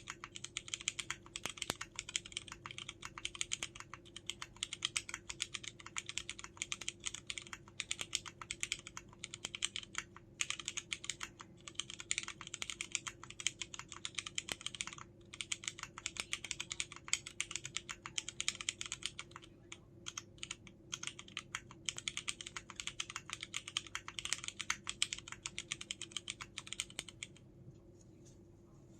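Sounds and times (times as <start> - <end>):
mechanical keyboard typing clacks: 0.0 - 27.4.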